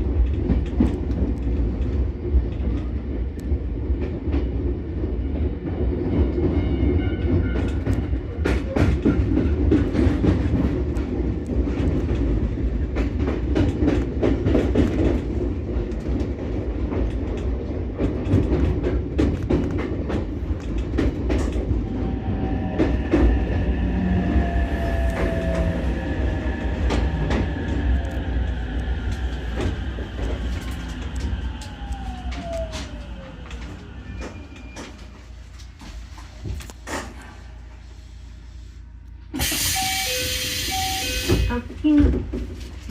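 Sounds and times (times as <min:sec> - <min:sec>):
electric railcar rumbling: 0:00.0 - 0:42.9.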